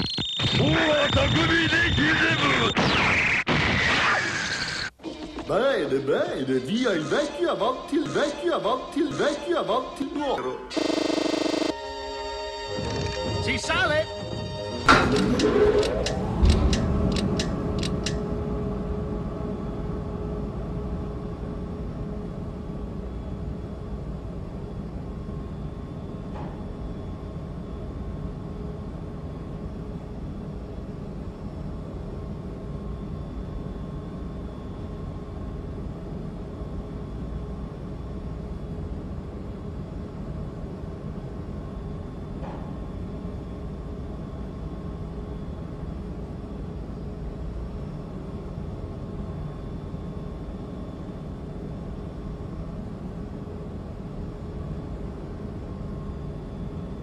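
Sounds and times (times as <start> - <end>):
elevator hum and rumble: 4.9 - 57.0.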